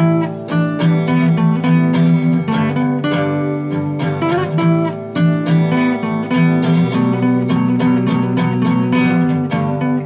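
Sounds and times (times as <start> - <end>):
acoustic guitar solo: 0.0 - 10.0.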